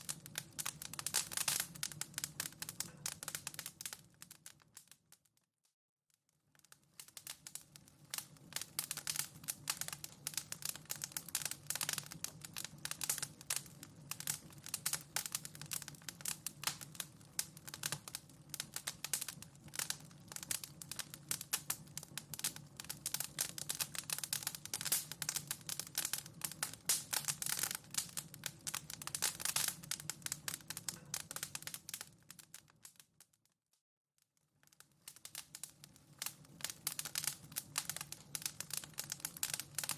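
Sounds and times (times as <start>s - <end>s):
wood fire crackling: 0.0s - 5.3s, 6.4s - 33.4s, 34.6s - 39.9s.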